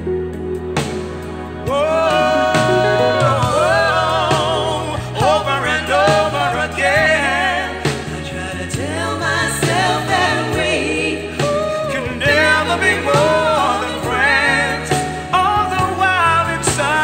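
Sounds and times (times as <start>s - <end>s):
pop song through speakers: 0.8s - 17.0s
person singing: 1.7s - 17.0s.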